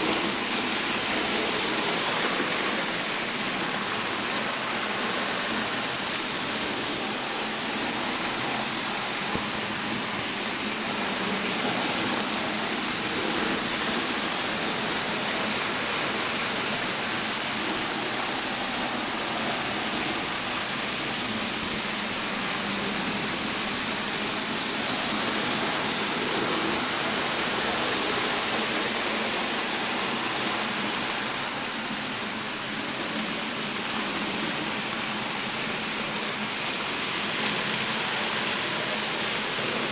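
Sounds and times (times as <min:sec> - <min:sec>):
model trains whirring on track: 0:00.0 - 0:39.9.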